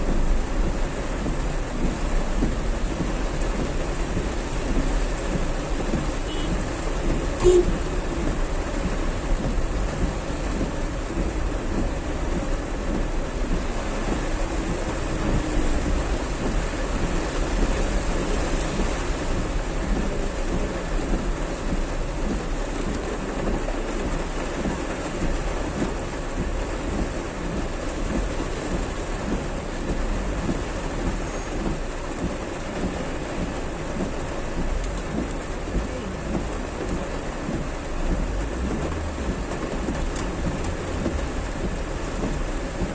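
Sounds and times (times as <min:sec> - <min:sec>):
heavy rain pouring: 0:00.0 - 0:42.9
low rumble: 0:00.0 - 0:42.9.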